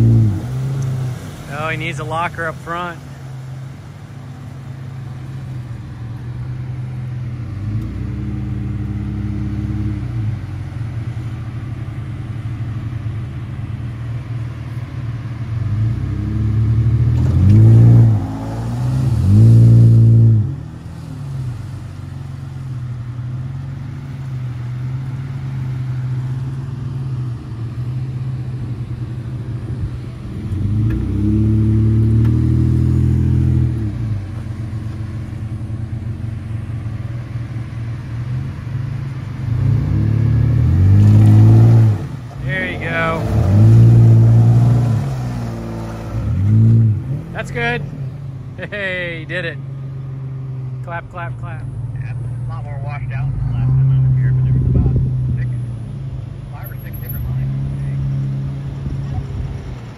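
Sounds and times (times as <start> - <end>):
truck engine revving: 0.0 - 10.9, 15.5 - 36.8, 38.1 - 59.9.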